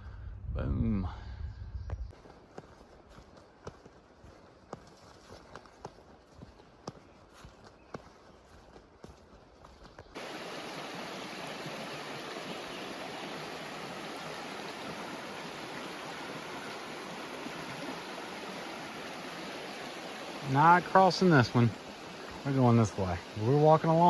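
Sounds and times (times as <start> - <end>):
flowing creek: 2.2 - 24.0.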